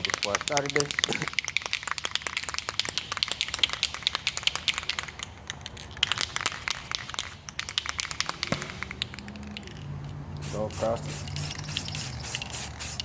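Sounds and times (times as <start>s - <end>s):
spray can ball rattling: 0.0s - 13.0s.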